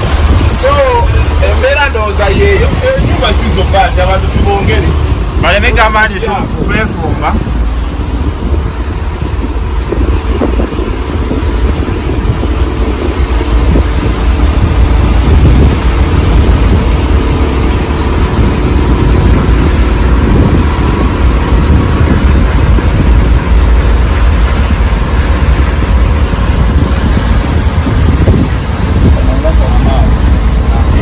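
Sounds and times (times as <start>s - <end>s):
boat engine rumbling: 0.0s - 31.0s
wind buffeting microphone: 0.0s - 31.0s.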